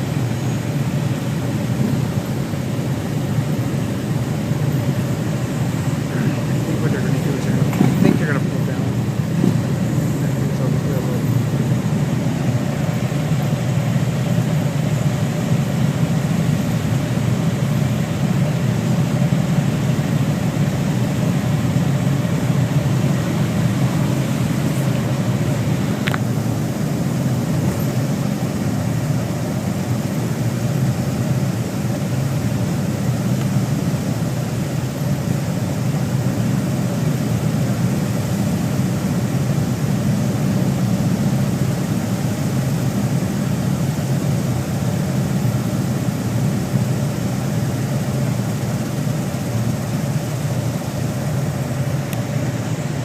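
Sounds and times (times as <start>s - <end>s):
motorcycle engines rumbling: 0.0s - 53.0s.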